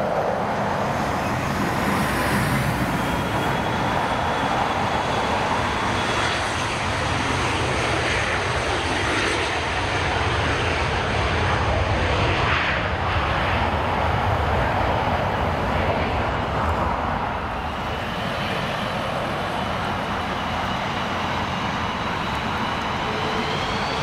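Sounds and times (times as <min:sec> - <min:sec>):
faint high engine whine: 0:00.0 - 0:24.0
jet engines rumbling: 0:00.0 - 0:24.0.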